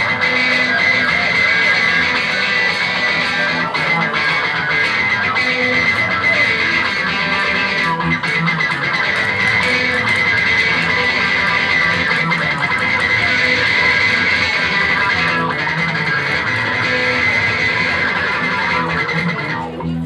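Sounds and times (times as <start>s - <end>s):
loud electric guitar: 0.0s - 20.0s
rock band playing live: 0.0s - 20.0s.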